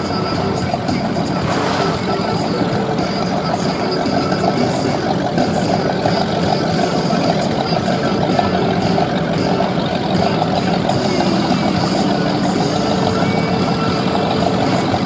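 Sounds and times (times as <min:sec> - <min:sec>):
boat engines idling: 0:00.0 - 0:15.0.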